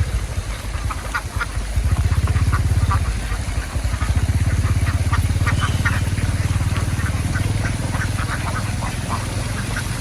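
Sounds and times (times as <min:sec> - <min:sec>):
ducks quacking: 0:00.0 - 0:10.0
small engine running: 0:00.0 - 0:10.0.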